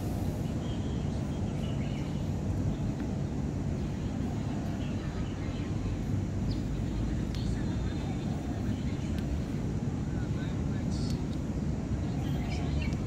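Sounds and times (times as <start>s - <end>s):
low urban background rumble: 0.0s - 13.0s.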